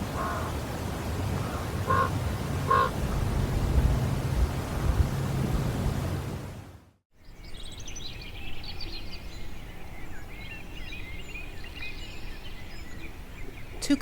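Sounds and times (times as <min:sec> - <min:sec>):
songbirds chirping: 0:00.0 - 0:06.5, 0:07.2 - 0:14.0
low outdoor hiss: 0:00.0 - 0:14.0.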